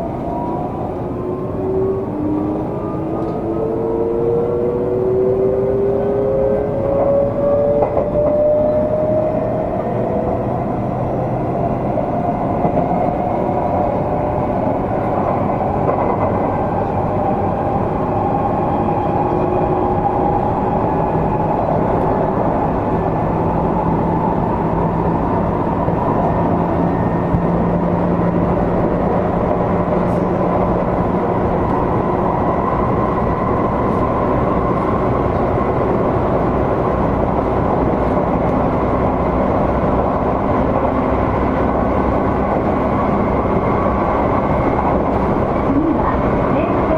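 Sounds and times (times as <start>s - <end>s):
train traction motor whine: 0.0s - 46.9s
wheels rumbling on rail: 0.0s - 46.9s.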